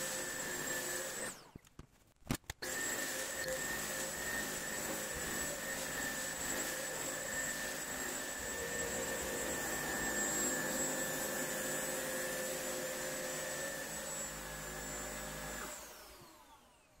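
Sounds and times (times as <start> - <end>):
carpet washer motor whine: 2.6 - 17.0.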